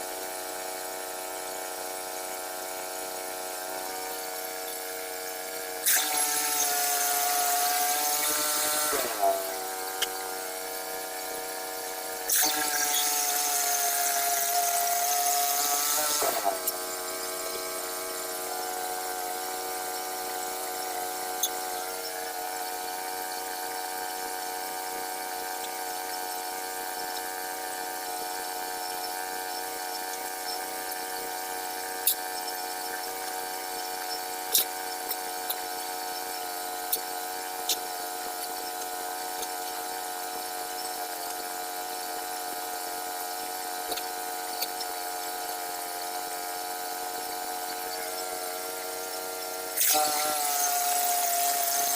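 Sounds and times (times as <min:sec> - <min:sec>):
saw blade cutting: 0:00.0 - 0:51.9
sawmill engine running: 0:00.0 - 0:51.9.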